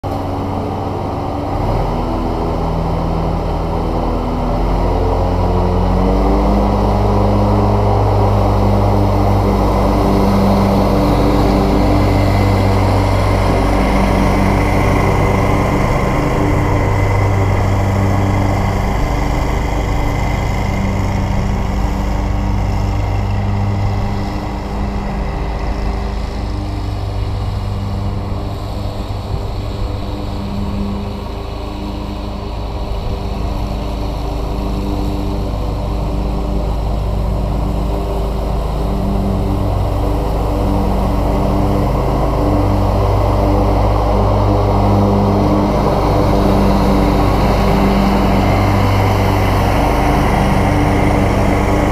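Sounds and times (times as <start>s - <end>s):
riding mower cutting grass: 0.0s - 51.9s.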